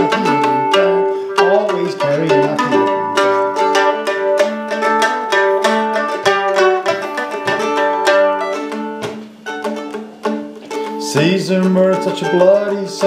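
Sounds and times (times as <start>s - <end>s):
mandolin picked notes: 0.0s - 13.0s.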